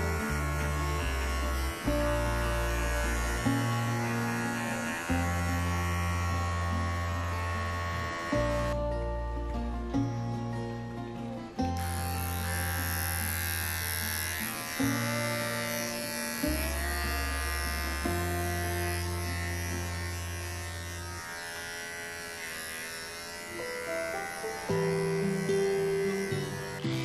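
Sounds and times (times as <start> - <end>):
electric clippers buzzing: 0.0 - 10.1, 11.4 - 27.0.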